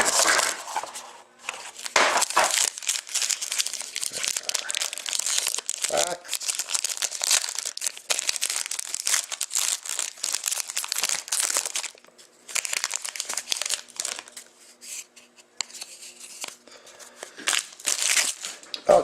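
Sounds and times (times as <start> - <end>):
plastic wrapping crinkling and tearing: 0.0 - 15.0, 15.6 - 18.7.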